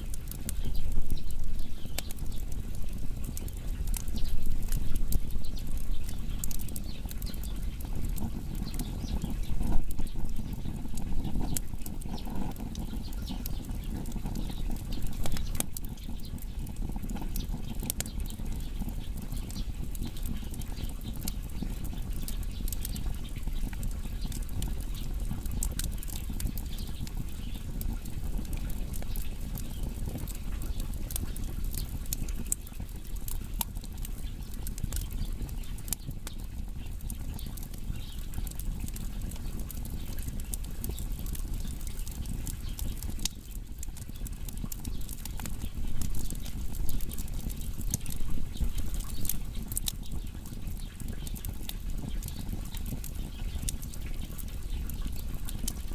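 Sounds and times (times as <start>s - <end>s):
firewood crackling and popping: 0.0s - 55.9s
low rumble of flames: 0.0s - 55.9s.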